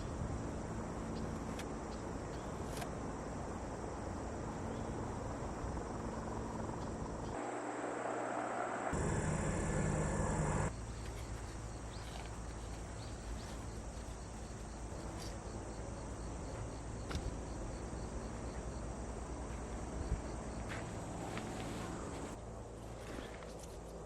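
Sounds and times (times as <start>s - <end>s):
insects chirping: 0.0s - 24.0s
low background hum: 0.0s - 24.0s.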